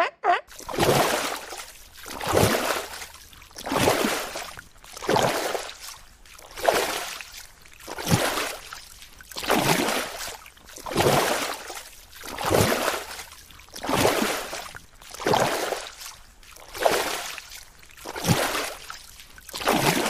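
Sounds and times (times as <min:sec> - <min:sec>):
water swishing in surges: 0:00.0 - 0:20.0.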